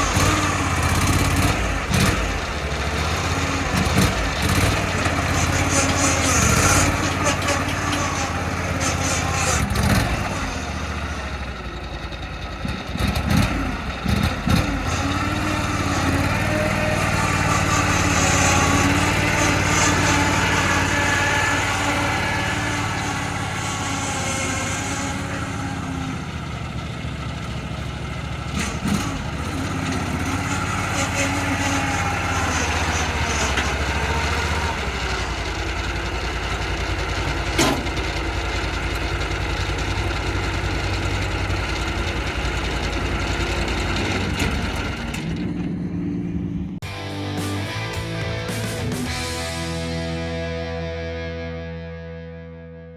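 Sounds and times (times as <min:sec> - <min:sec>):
small engine running: 0:00.0 - 0:50.6.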